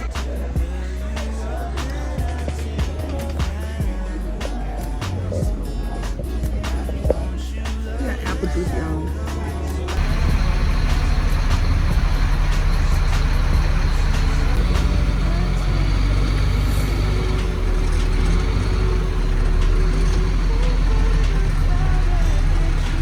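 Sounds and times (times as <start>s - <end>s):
car engine: 0.0s - 23.0s
road noise: 3.0s - 23.0s.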